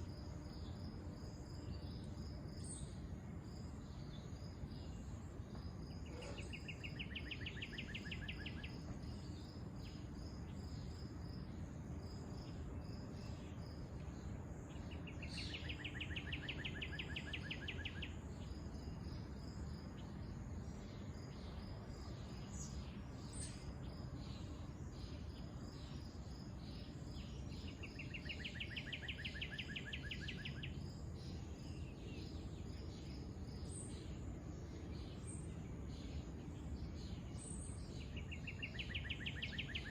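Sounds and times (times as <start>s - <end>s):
insect high chirp: 0.0s - 39.9s
rapid pulsed insect trill: 0.0s - 39.9s.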